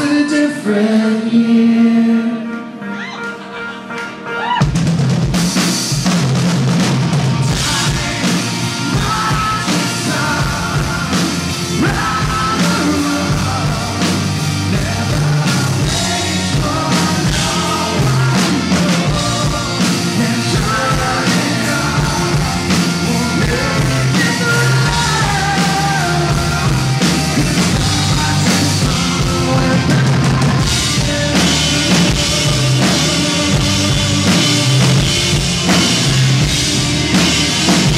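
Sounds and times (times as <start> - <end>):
man singing lead vocal: 0.0 - 2.8, 7.4 - 37.9
electric guitars: 0.0 - 37.9
drum kit: 4.0 - 37.9
bass guitar: 4.2 - 37.9.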